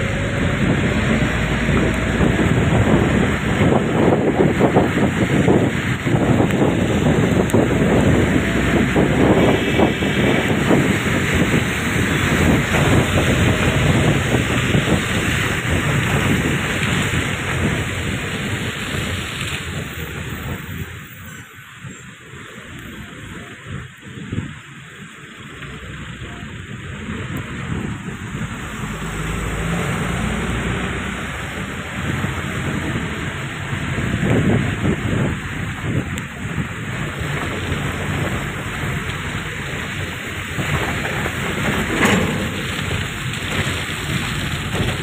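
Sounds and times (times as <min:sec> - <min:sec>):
truck engine rumble: 0:00.0 - 0:45.0
tyres hissing on wet road: 0:00.0 - 0:45.0
wind buffeting microphone: 0:00.0 - 0:45.0.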